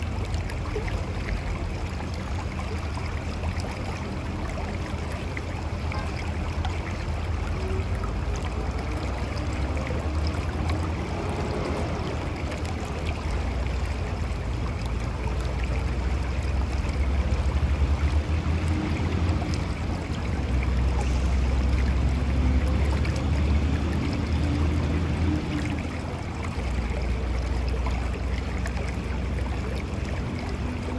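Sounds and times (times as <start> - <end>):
river rushing over rocks: 0.0 - 30.9.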